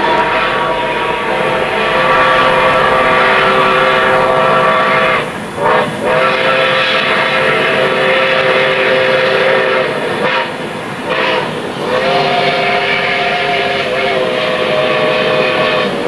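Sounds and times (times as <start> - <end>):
steam whistle blowing a chord: 0.0 - 16.0.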